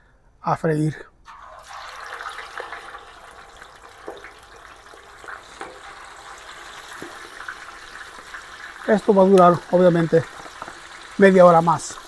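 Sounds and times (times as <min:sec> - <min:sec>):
chicken sizzling in hot oil: 0:01.3 - 0:12.0
oil popping and crackling: 0:01.3 - 0:12.0.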